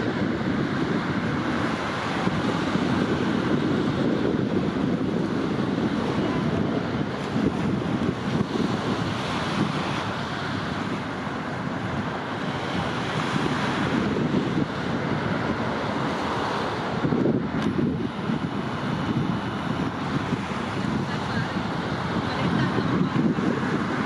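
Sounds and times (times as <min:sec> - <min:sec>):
sea wash: 0:00.0 - 0:24.0
wind on microphone: 0:00.0 - 0:24.0.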